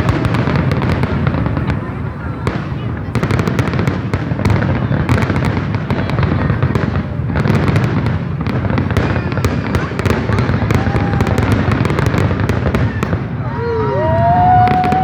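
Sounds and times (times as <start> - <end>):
fireworks cracks and pops: 0.0 - 15.0.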